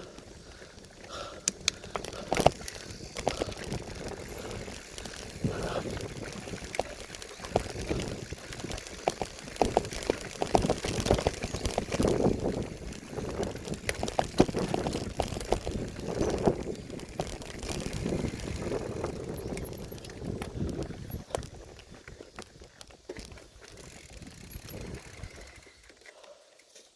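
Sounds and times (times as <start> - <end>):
bicycle rumbling over trail: 0.0 - 26.3
bicycle knocks and rattles: 0.1 - 25.9.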